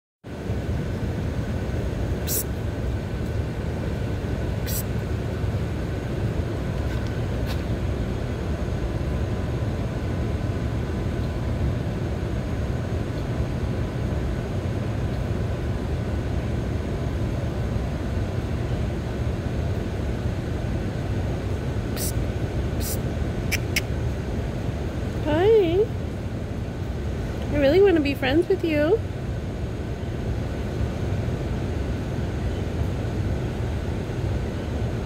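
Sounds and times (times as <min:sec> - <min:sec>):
low rumbling background noise: 0:00.2 - 0:35.0.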